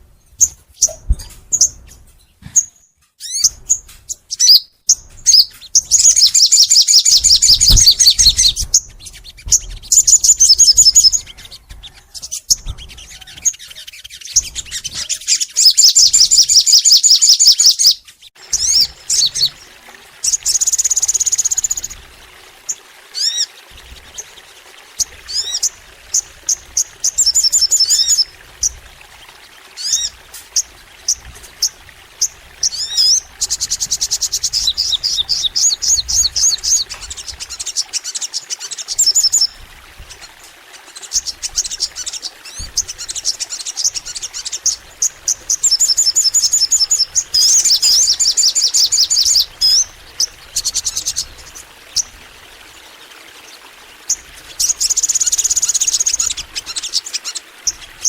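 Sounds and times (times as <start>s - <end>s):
songbird singing rapid trills: 2.6s - 19.7s, 22.7s - 28.8s, 29.8s - 39.6s, 40.2s - 52.7s, 53.5s - 58.0s.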